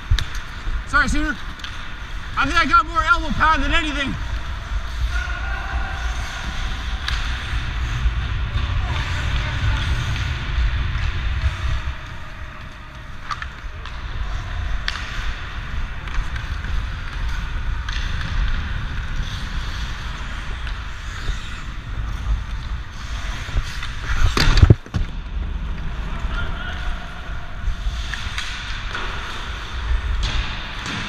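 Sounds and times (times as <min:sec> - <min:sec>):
skates scraping on ice: 0:00.0 - 0:31.0
wind rumbling on microphone: 0:00.0 - 0:31.0.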